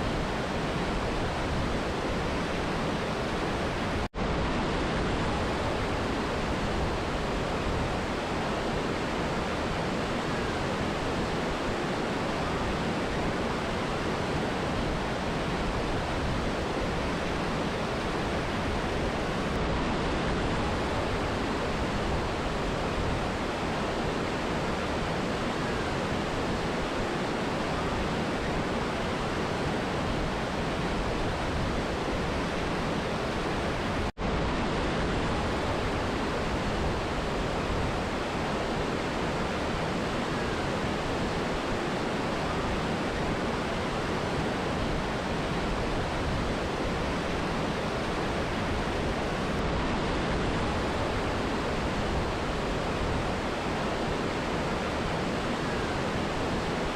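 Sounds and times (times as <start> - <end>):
waterfall and river rushing: 0.0 - 56.9.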